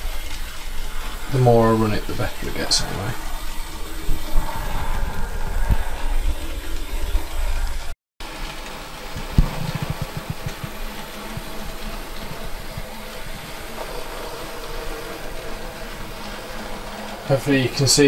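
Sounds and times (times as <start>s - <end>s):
model locomotive motor whirring: 0.0s - 18.0s.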